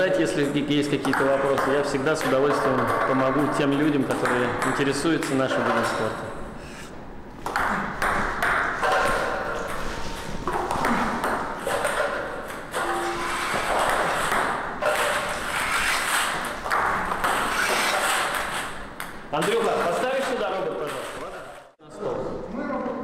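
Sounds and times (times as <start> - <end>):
table tennis ball bouncing: 0.0 - 6.4, 7.4 - 20.2.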